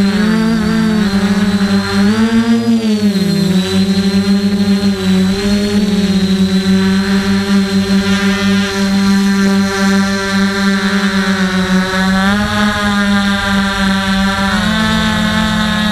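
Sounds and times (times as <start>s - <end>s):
drone motors and propellers humming: 0.0s - 15.9s.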